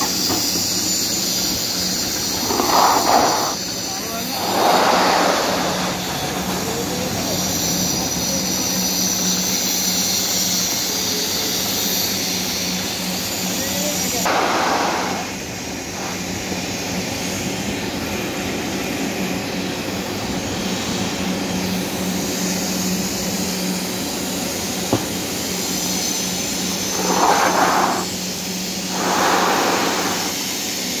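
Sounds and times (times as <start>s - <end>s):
machine drone: 0.0s - 31.0s.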